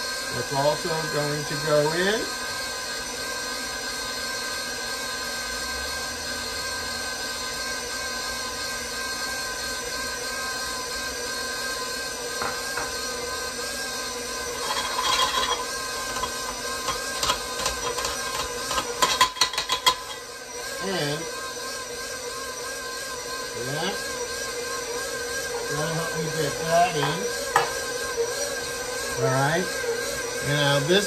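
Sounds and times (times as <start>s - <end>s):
stand mixer whine: 0.0s - 31.0s.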